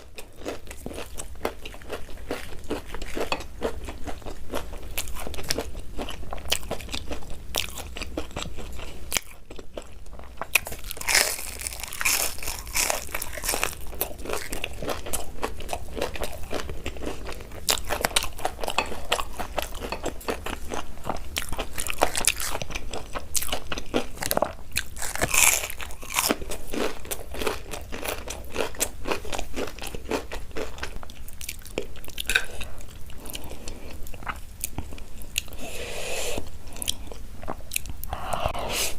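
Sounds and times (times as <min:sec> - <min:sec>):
person chewing crunchy noodles: 0:00.0 - 0:38.9.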